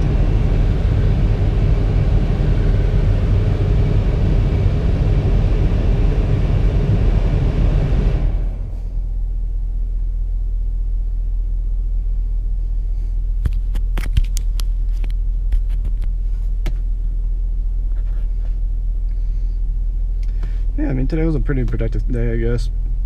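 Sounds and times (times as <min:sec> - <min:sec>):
engine and road noise in cabin: 0:00.0 - 0:23.0.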